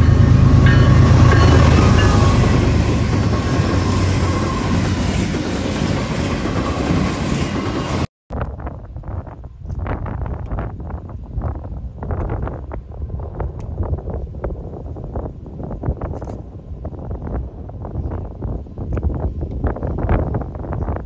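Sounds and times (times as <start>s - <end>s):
diesel locomotive engine rumble: 0.0s - 21.0s
train rolling noise: 0.0s - 21.0s
wind buffeting microphone: 0.0s - 21.0s.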